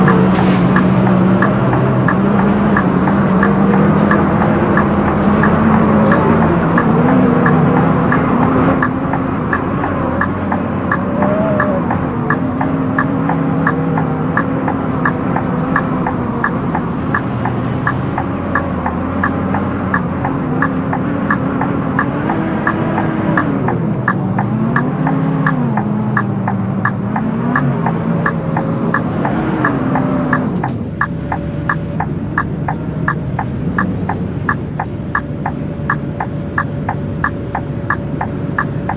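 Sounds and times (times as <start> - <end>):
bus engine: 0.0 - 38.9
rapid clicking: 0.0 - 38.9.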